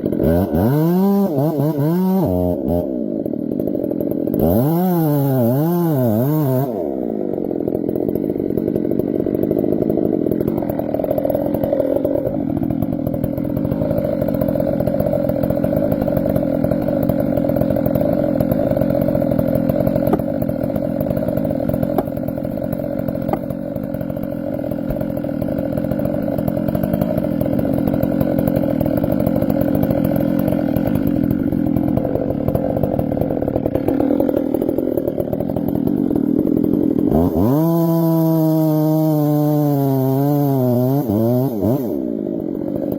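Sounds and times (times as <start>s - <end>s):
chainsaw running at high revs: 0.0s - 42.9s.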